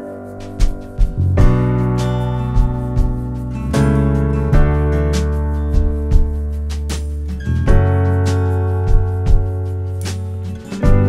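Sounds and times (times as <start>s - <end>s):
held music chords: 0.0s - 11.0s
low beat: 0.0s - 11.0s.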